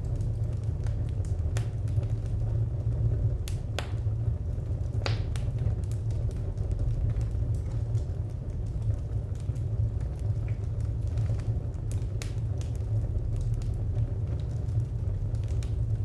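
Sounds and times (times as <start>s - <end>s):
steady low rumble: 0.0s - 16.0s
wood fire crackling: 0.0s - 16.0s.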